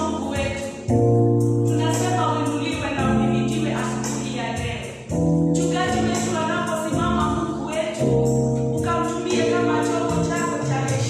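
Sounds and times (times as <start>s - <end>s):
choir singing gospel music: 1.8s - 11.0s.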